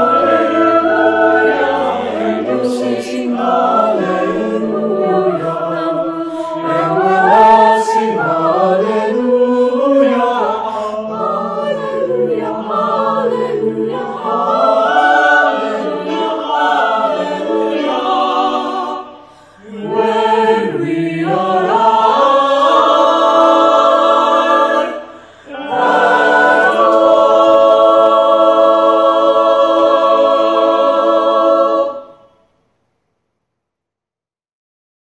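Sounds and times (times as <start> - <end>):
chamber choir singing: 0.0 - 32.5.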